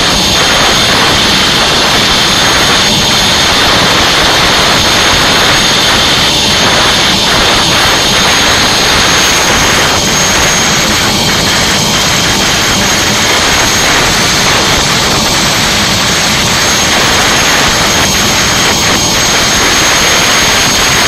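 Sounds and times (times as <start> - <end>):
helicopter turbine engine running: 0.0 - 21.0
high-pitched turbine whine: 0.0 - 21.0.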